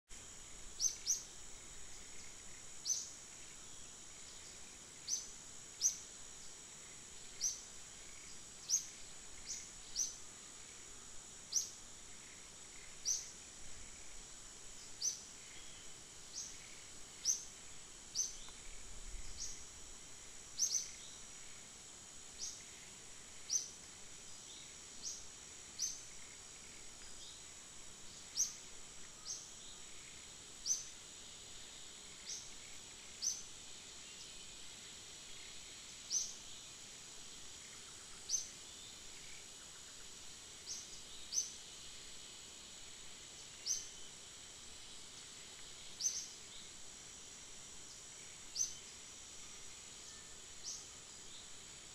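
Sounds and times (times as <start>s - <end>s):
high insect drone: 0.1s - 51.9s.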